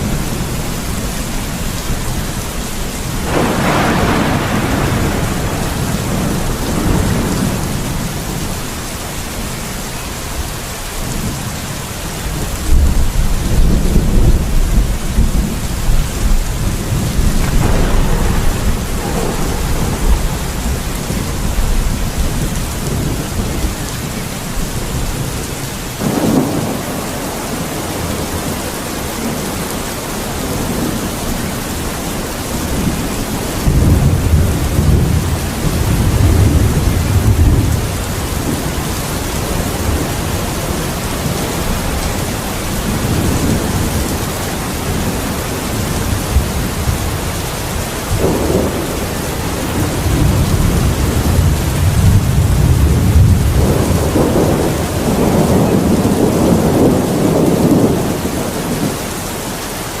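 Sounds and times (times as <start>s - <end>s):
heavy rain hissing: 0.0s - 60.0s
thunder rumbling: 0.0s - 60.0s.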